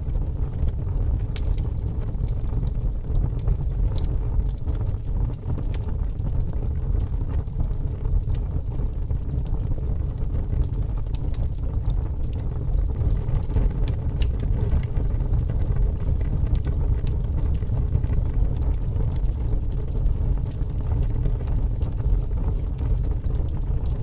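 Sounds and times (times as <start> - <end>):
fire crackles: 0.0 - 24.0
fire rumbling: 0.0 - 24.0.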